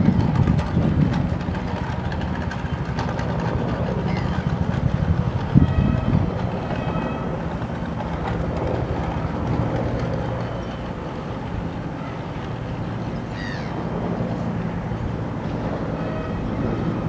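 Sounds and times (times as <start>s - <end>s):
distant helicopter rotor drone: 0.0s - 17.0s.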